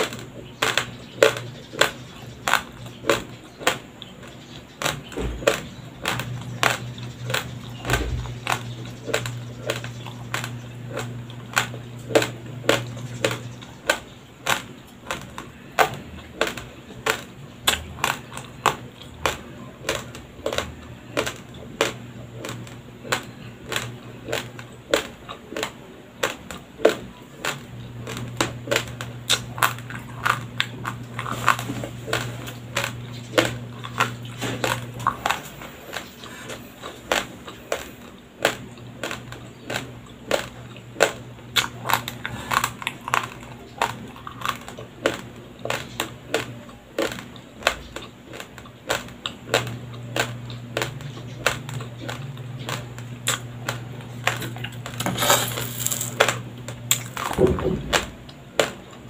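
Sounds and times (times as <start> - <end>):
faint low hum: 0.0 - 59.0
raw rice being chewed: 0.0 - 59.0.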